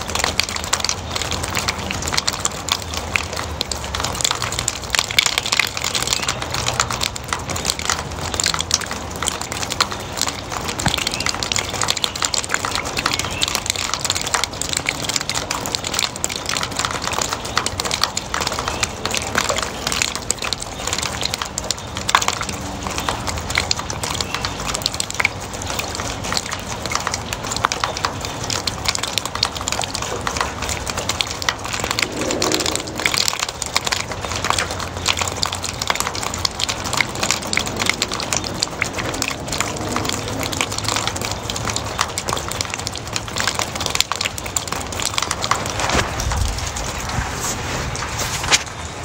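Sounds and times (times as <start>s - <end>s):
steady rain: 0.0s - 49.0s
water dripping off a roof edge: 0.0s - 49.0s.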